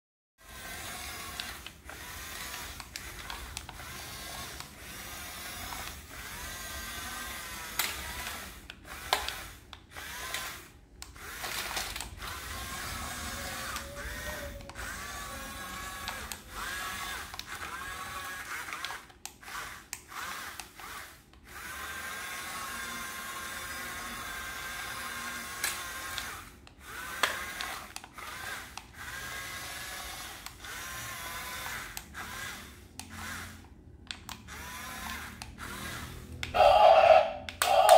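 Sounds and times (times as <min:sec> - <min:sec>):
small electric motors whirring: 0:00.4 - 0:37.9.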